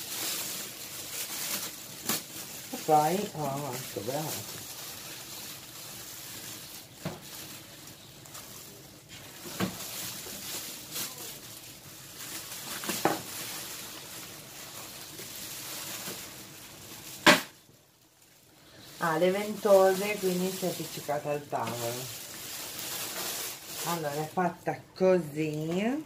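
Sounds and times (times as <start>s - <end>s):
plastic bag rustling and crinkling: 0.0s - 26.0s.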